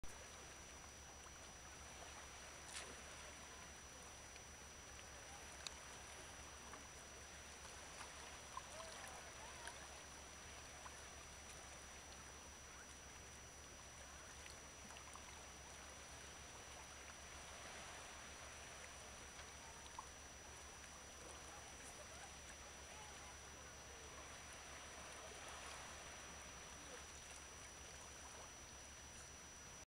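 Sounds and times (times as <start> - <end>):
small waves on rocky shore: 0.1 - 29.5
thin steady high tone: 0.2 - 29.8.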